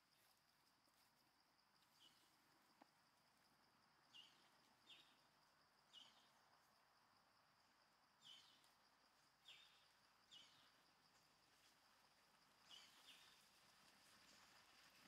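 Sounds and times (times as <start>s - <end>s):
high insect hum: 0.0s - 15.0s.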